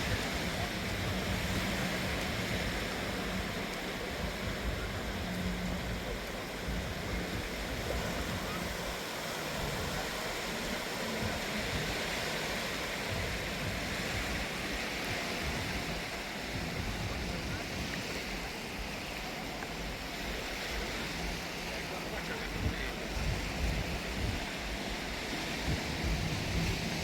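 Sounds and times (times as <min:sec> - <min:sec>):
waves breaking on sandy beach: 0:00.0 - 0:27.0.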